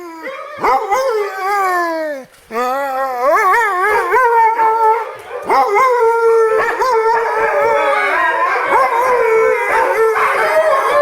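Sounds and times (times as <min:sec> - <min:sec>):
dog howling: 0:00.0 - 0:11.0.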